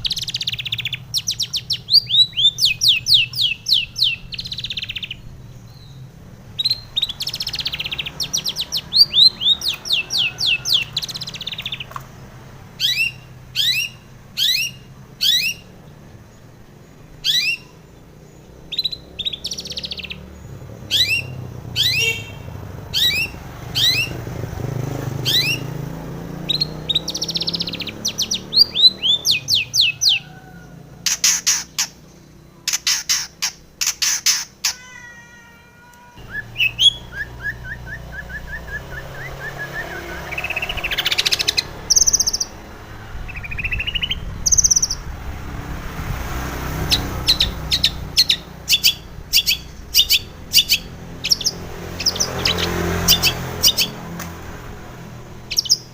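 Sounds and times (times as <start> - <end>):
shrike singing varied song: 0.0 - 45.5, 46.4 - 54.3, 55.0 - 55.9.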